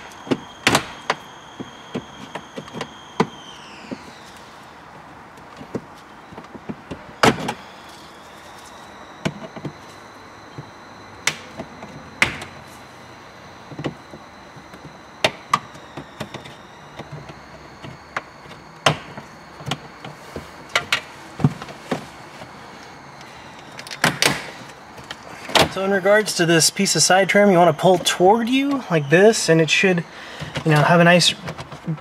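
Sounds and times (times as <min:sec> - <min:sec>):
faint high whine: 0:00.0 - 0:32.0.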